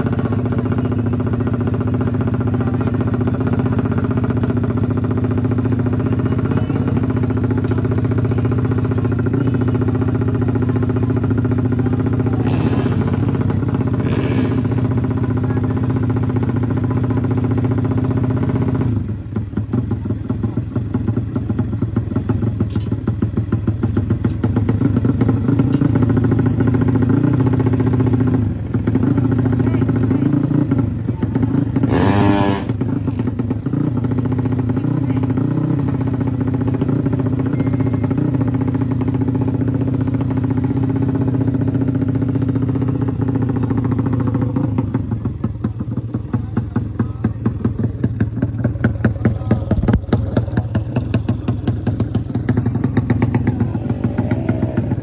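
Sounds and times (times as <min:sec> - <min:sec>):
motorcycle engine idling: 0:00.0 - 0:55.0
motorcycle engine revving: 0:00.0 - 0:55.0.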